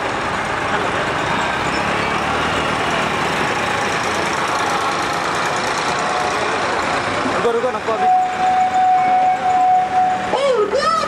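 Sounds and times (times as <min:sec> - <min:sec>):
outdoor noise: 0:00.0 - 0:11.0
vehicle engines idling: 0:00.0 - 0:11.0.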